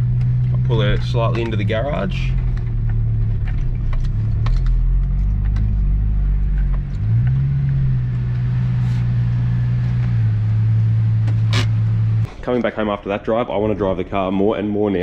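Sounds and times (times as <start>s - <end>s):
car engine running: 0.0s - 12.3s.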